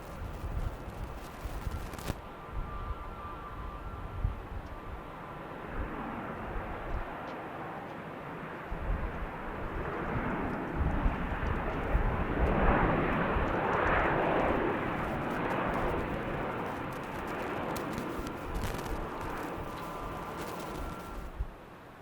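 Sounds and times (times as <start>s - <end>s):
airplane flying past: 0.0s - 21.7s.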